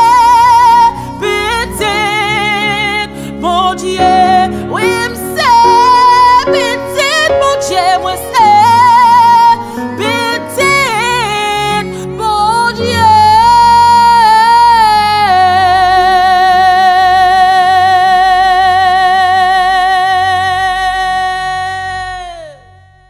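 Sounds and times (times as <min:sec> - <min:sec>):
instrumental backing: 0:00.0 - 0:22.8
woman singing with vibrato: 0:00.0 - 0:23.0.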